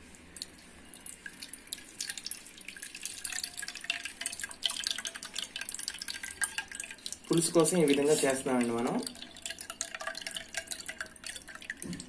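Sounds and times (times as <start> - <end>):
juice dripping into a bowl: 0.0 - 12.0.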